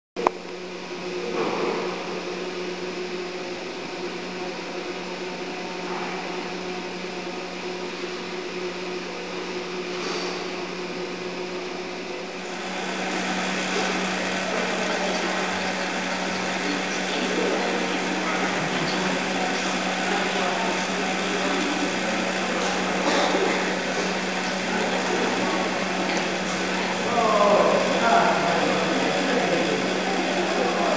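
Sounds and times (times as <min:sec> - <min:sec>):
droning mechanical hum: 0:00.2 - 0:30.9.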